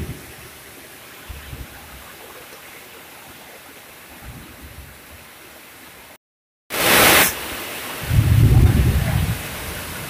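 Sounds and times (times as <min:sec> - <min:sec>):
rain falling on pond water: 0:00.0 - 0:10.0.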